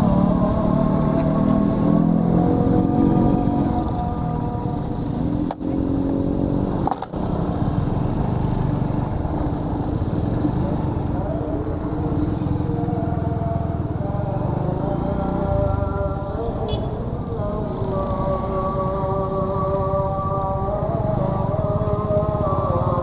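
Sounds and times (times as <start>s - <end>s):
two-stroke motorcycle engine running: 0.0s - 23.0s.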